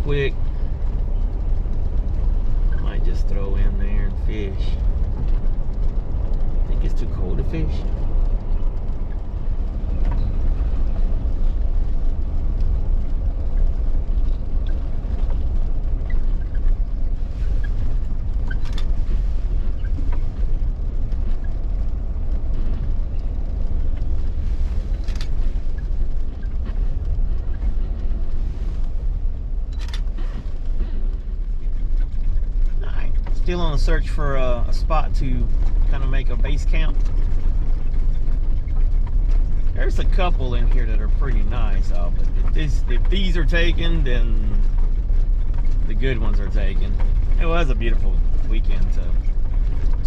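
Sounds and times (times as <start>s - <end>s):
car engine and tyre rumble: 0.0s - 50.0s.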